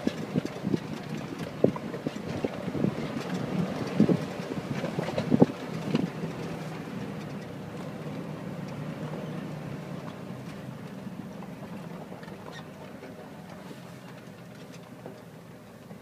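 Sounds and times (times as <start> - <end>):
engine humming: 0.0 - 16.0
tires crunching over loose rock: 0.0 - 16.0.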